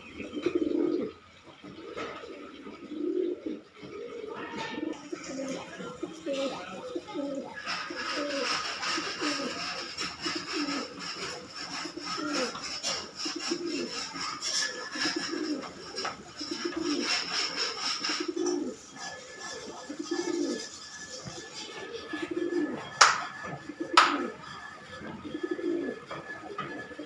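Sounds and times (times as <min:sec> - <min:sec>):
pigeon cooing: 0:00.0 - 0:27.0.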